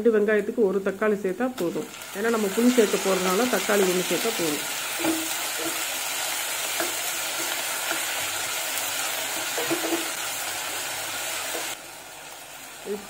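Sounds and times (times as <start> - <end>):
onions sizzling in hot oil: 1.6 - 13.0.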